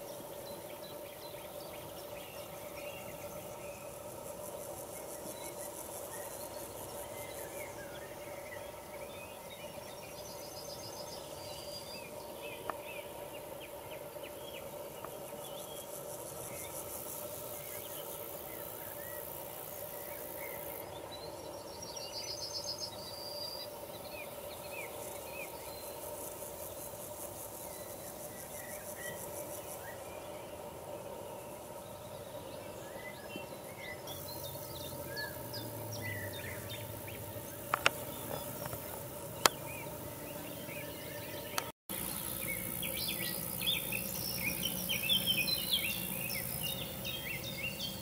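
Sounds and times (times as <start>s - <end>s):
insect chirp trains: 0.0s - 48.0s
insects buzzing: 0.0s - 48.0s
steady hum: 0.0s - 48.0s.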